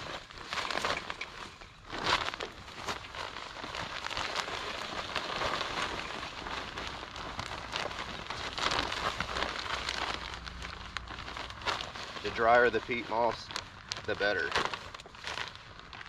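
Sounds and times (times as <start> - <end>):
peat pouring and rustling: 0.0 - 16.0.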